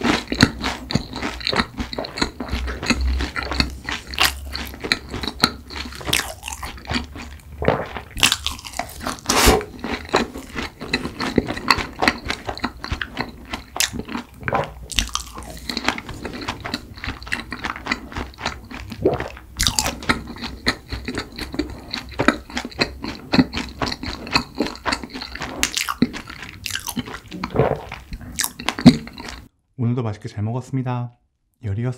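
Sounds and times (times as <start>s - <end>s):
close chewing mouth clicks: 0.0s - 29.5s.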